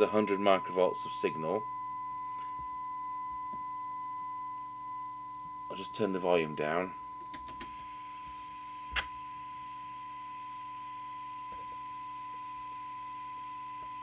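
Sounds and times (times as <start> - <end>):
steady test tone from speaker: 0.0 - 14.0.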